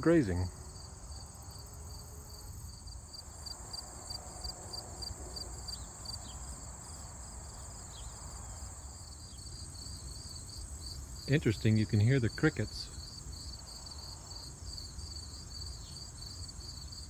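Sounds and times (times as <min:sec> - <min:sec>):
crickets chirping: 0:00.0 - 0:17.0
high insect trill: 0:00.0 - 0:17.0.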